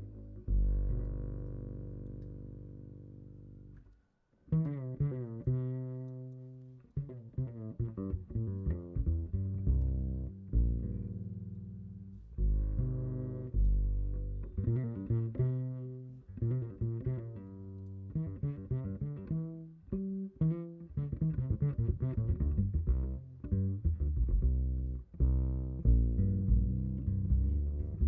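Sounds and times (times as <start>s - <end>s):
jazz bass solo: 0.0s - 3.9s, 4.5s - 28.0s.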